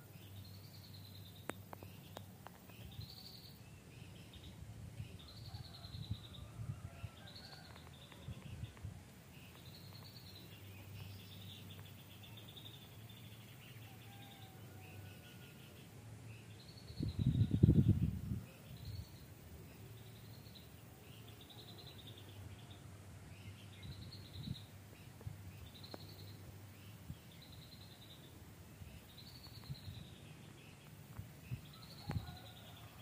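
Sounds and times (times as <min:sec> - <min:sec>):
songbird chattering song: 0:00.0 - 0:33.0.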